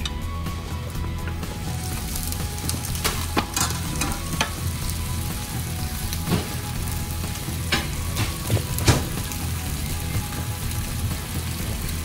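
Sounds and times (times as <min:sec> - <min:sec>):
fish sizzling in a frying pan: 0:00.0 - 0:12.0
crackling pops: 0:01.2 - 0:12.0.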